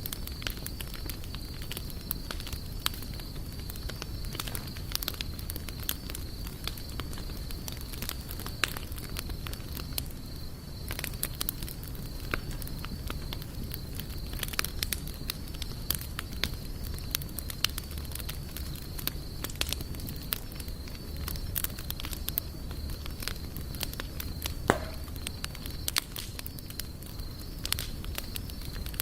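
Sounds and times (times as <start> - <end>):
campfire crackling and popping: 0.0 - 29.0
low rumble of flame: 0.0 - 29.0.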